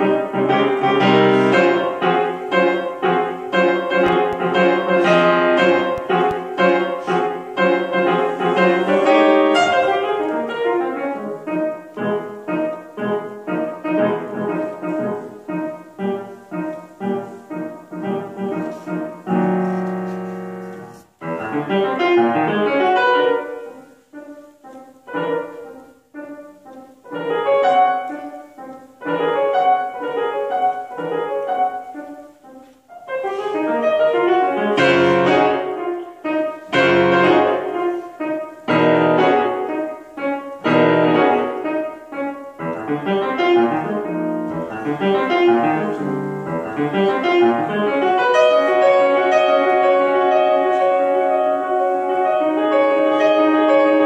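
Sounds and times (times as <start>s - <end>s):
solo grand piano: 0.0s - 54.0s.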